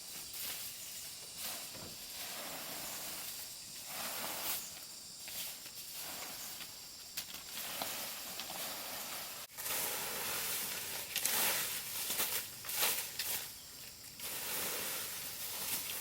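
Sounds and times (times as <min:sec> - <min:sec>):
hissing rustling noise: 0:00.0 - 0:16.0.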